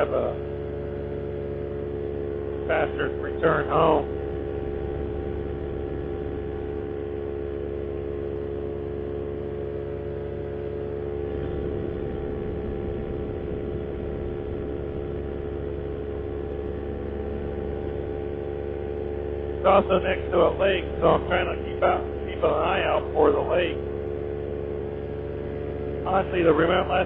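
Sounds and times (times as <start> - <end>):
paramotor engine buzzing drone: 0.0 - 27.0.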